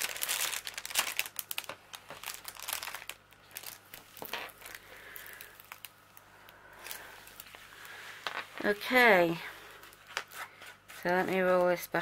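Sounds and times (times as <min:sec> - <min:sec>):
cellophane crinkling: 0:00.0 - 0:11.9.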